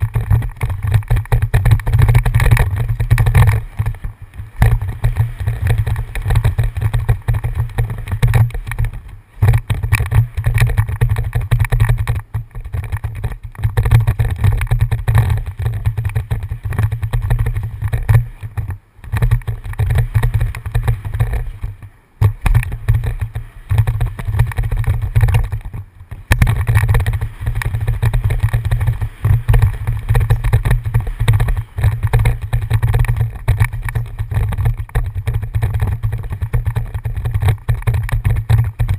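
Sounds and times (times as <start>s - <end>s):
bike rattling over ground: 0.0s - 38.9s
wind buffeting microphone: 0.0s - 38.9s.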